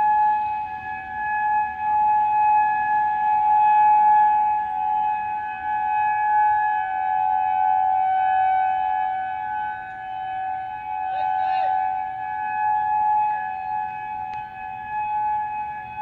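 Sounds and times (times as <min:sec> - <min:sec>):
warning siren: 0:00.0 - 0:16.0.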